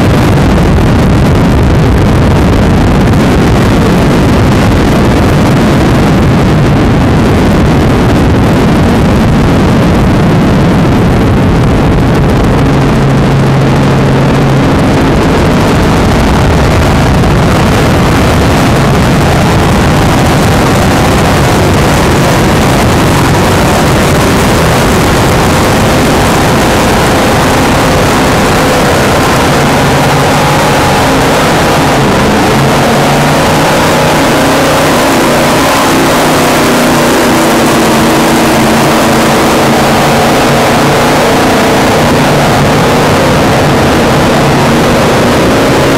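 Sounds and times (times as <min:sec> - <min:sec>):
loud engine noise: 0:00.0 - 0:45.9
wind and water rushing: 0:00.0 - 0:45.9.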